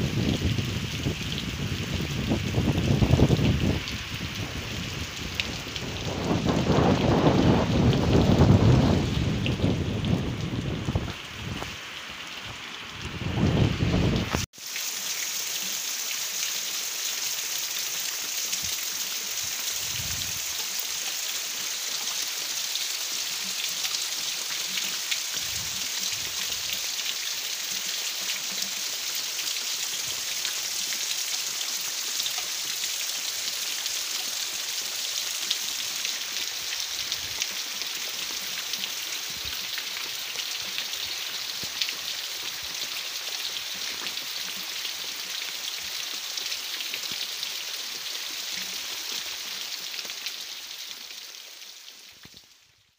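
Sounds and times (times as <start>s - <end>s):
water running off roof: 0.0s - 51.0s
rain on leaves and tiled roof: 0.0s - 52.9s.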